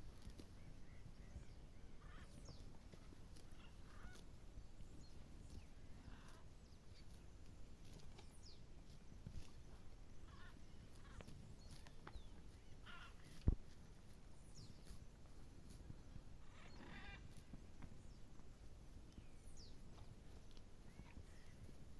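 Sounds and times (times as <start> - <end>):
bird calls and chirps: 0.0 - 7.4, 8.0 - 13.6, 14.3 - 15.0, 16.0 - 18.4, 19.1 - 21.9.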